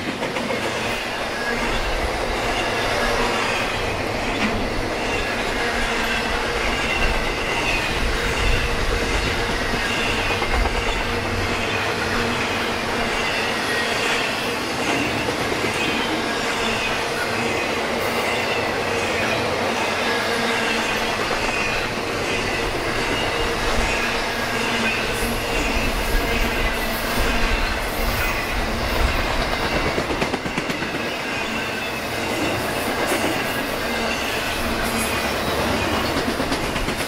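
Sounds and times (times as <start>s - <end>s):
freight train rumbling past: 0.0s - 37.0s.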